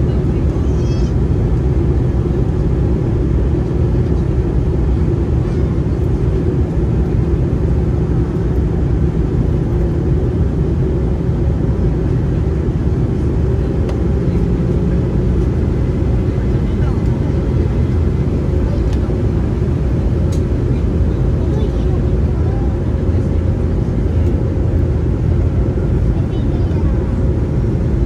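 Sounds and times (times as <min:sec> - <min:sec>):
aircraft cabin engine rumble: 0:00.0 - 0:28.0.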